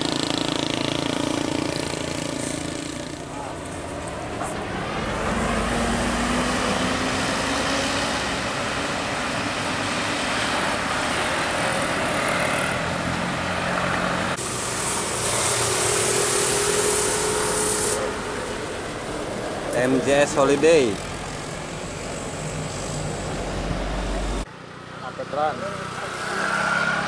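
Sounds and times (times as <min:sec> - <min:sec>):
buses and trucks passing: 0:00.0 - 0:27.0.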